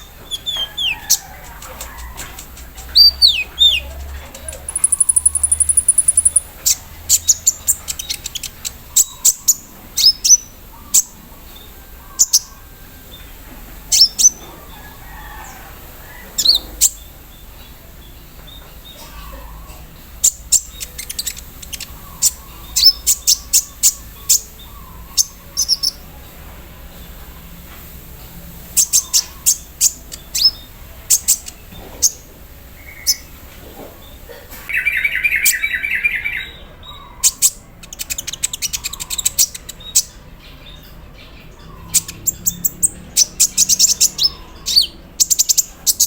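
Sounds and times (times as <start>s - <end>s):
sunbird calling high chips: 0.0s - 27.2s, 27.8s - 46.0s.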